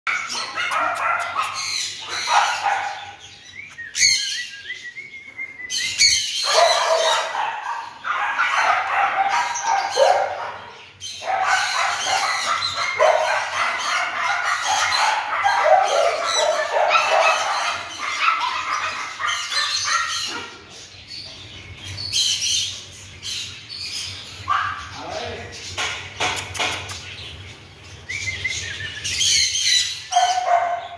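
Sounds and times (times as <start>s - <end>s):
puppies squealing and yipping: 0.1s - 4.4s, 5.7s - 25.1s, 28.1s - 30.9s.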